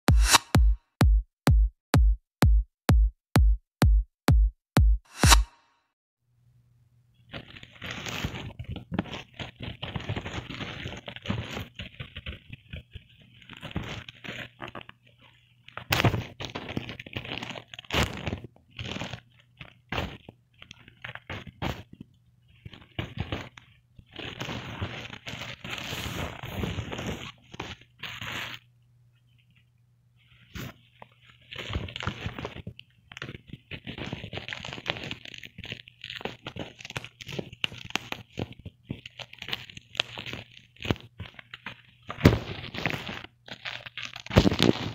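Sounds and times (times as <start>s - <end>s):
plastic mailer bag crinkling: 7.2s - 28.7s, 30.2s - 44.9s.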